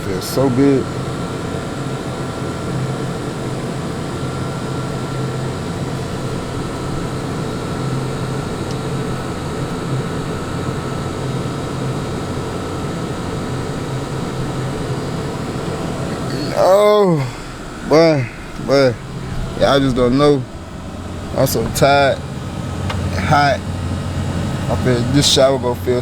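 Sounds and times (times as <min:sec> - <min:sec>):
air conditioning blowing: 0:00.0 - 0:26.0
car engine idling: 0:00.0 - 0:26.0.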